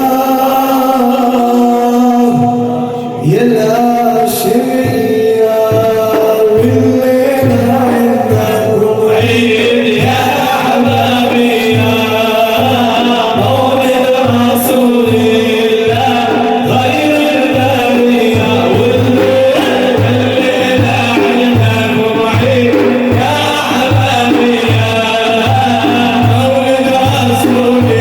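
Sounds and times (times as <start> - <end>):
steady drum beat: 0.0 - 28.0.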